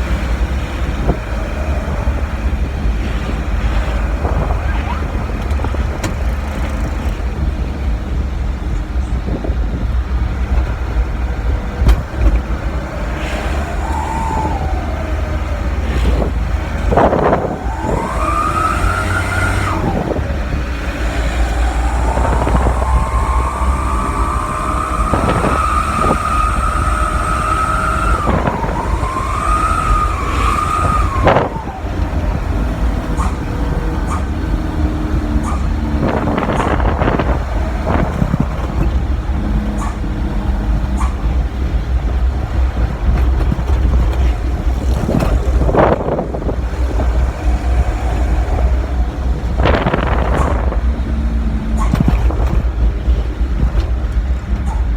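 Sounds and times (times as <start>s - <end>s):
exhaust crack: 0.0s - 54.9s
exhaust howling whine: 0.0s - 54.9s
truck engine rumble: 0.0s - 54.9s.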